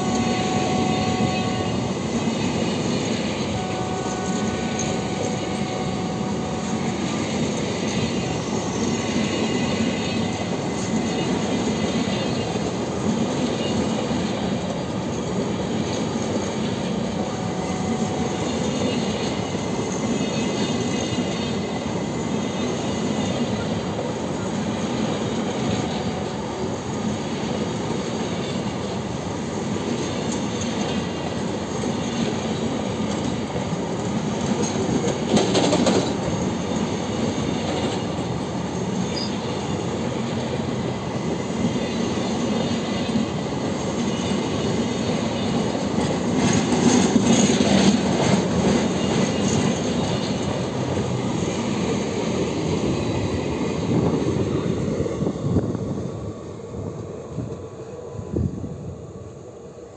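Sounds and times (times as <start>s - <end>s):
train wheels rumbling and rattling: 0.0s - 59.2s.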